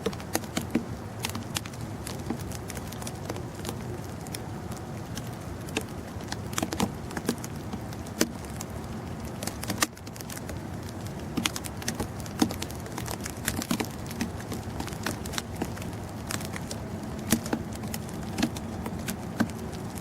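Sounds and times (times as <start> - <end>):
snow pattering: 0.0 - 20.0
steady wind hiss: 0.0 - 20.0.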